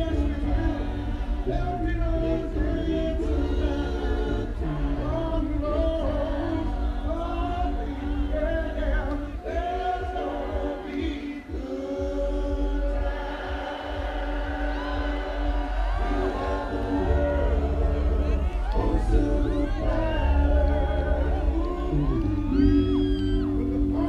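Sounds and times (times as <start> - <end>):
electronic dance music: 0.0 - 24.0
heavy bass: 0.0 - 24.0
sung vocals: 0.0 - 24.0.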